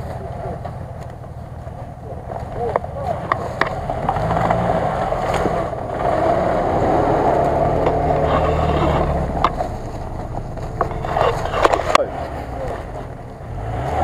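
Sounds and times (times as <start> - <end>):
tyres churning through mud: 0.0 - 14.0
vehicle engine under load: 0.0 - 14.0.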